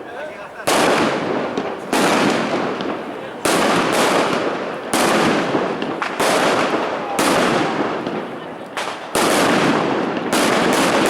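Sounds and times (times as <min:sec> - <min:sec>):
fireworks crackle and rumble: 0:00.0 - 0:11.0
fireworks bangs: 0:00.5 - 0:11.0.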